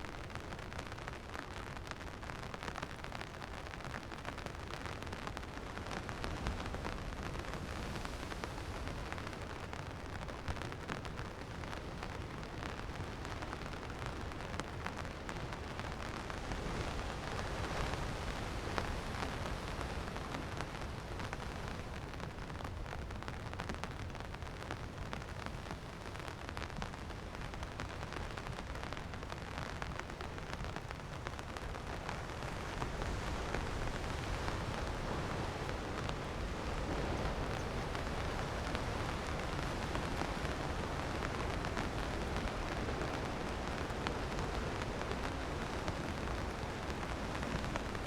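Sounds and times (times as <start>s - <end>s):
rain drops tapping: 0.0s - 48.0s
rain hiss: 0.0s - 48.0s.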